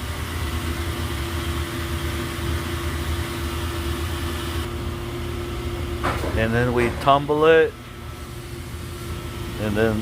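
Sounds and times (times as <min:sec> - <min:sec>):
shop machinery humming and whining: 0:00.0 - 0:10.0.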